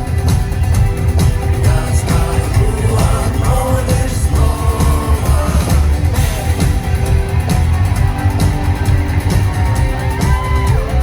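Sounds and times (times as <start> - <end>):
rock song with singing: 0.0 - 11.0.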